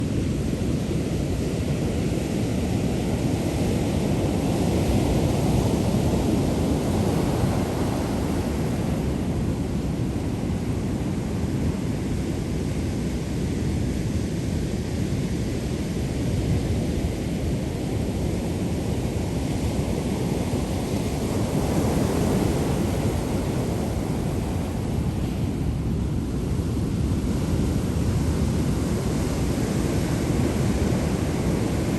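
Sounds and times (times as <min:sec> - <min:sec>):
ocean surf rumble: 0:00.0 - 0:31.9
wind on microphone: 0:00.0 - 0:31.9.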